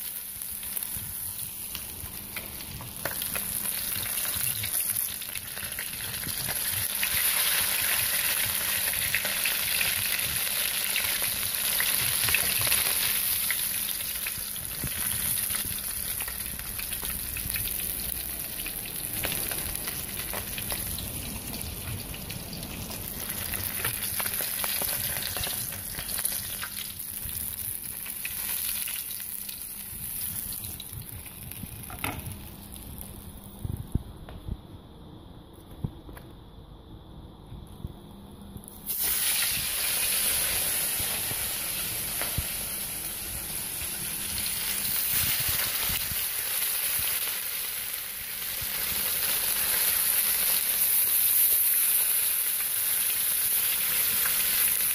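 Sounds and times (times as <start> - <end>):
fish sizzling in hot oil: 0.0 - 33.0, 38.8 - 54.9.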